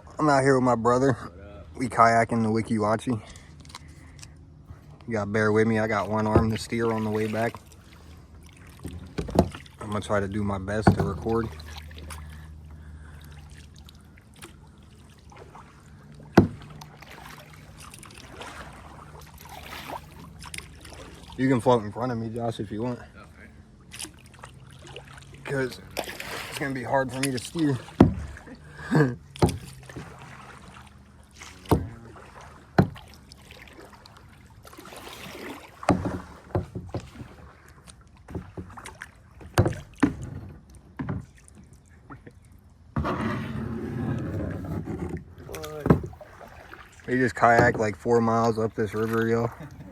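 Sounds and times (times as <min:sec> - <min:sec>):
low steady hum: 0:00.0 - 0:49.9
water and paddle sounds: 0:00.0 - 0:49.9.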